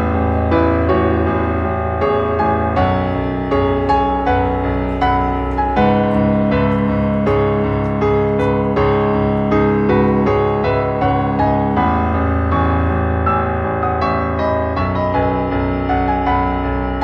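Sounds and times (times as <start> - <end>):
piano background music: 0.0 - 17.0.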